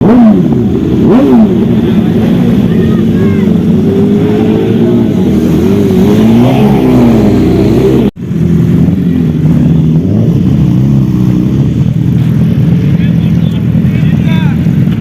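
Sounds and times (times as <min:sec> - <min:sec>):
engine running steadily: 0:00.0 - 0:15.0
motorbike engines revving: 0:00.0 - 0:15.0.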